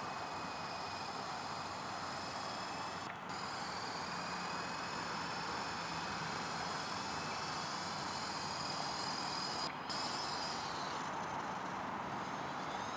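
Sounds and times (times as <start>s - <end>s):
helicopter whine and hum: 0.0s - 12.9s.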